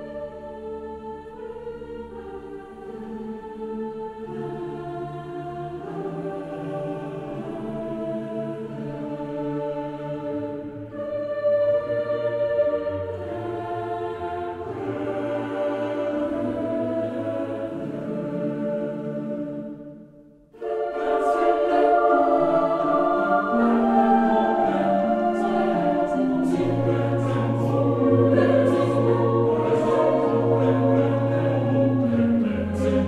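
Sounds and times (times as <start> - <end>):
choir-like voices holding chords: 0.0 - 33.0.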